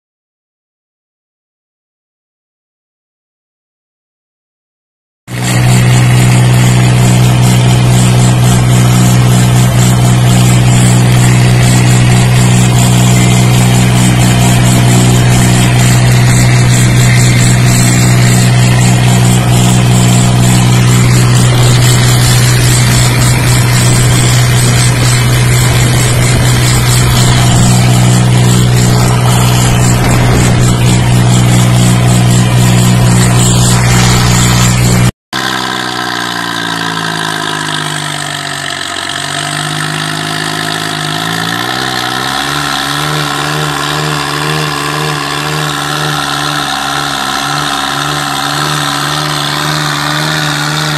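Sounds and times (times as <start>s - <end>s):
tractor diesel engine running: 5.3s - 50.9s.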